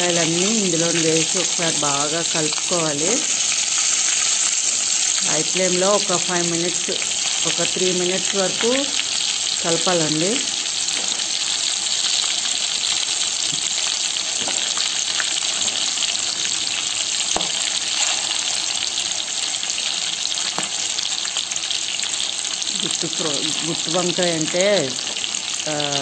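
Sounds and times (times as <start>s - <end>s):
hot oil sizzling: 0.0s - 26.0s.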